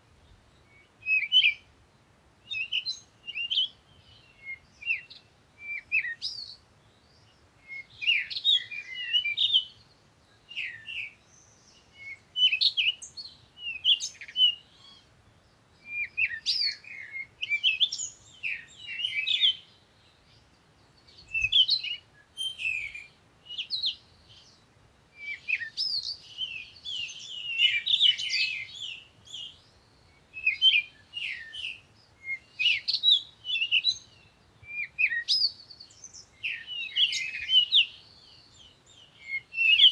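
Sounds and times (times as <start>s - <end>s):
small birds chirping: 2.4s - 39.9s.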